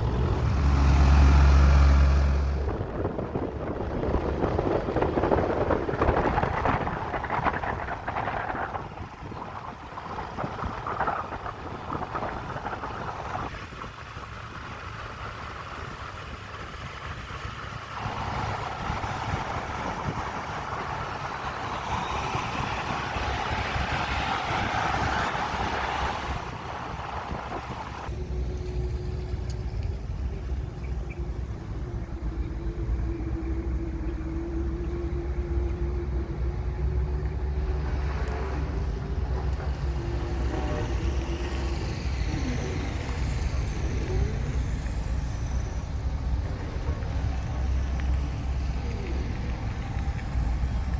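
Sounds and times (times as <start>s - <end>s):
construction machinery scraping and rumbling: 0.0s - 50.9s
low engine drone with whine: 0.0s - 50.9s.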